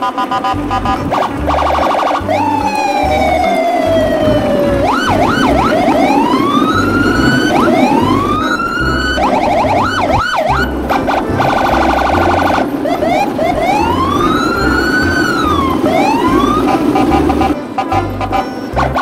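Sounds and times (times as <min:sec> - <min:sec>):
electronic siren wailing and yelping: 0:00.0 - 0:17.6
steady low rumble: 0:00.6 - 0:19.0.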